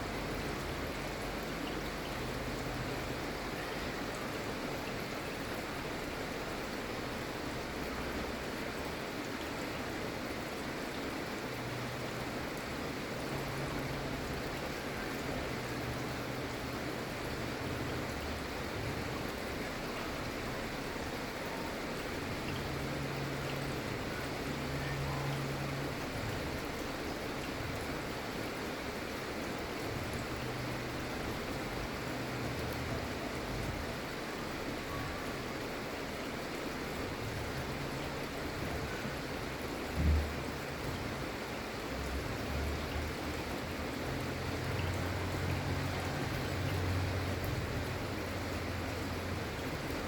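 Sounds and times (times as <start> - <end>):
gentle rain falling: 0.0 - 50.0.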